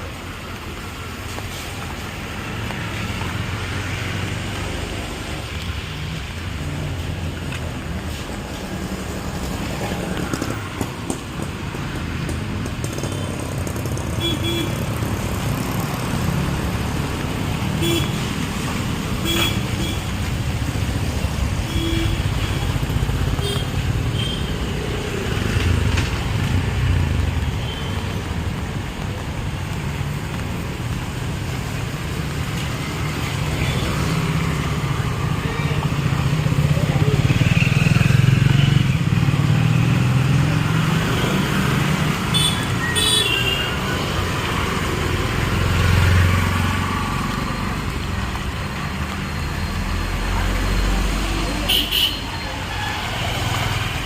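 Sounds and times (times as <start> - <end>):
motorcycles and cars driving past: 0.0 - 54.0.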